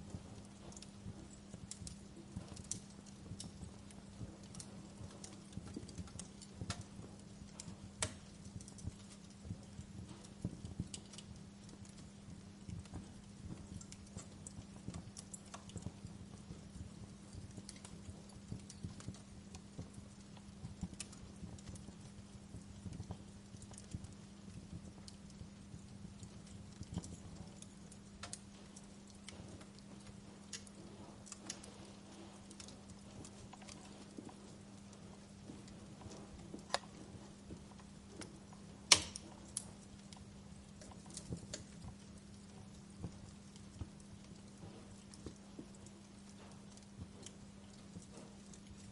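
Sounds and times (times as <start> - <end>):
fire crackling and popping: 0.0 - 48.9
steady low hum: 0.0 - 48.9.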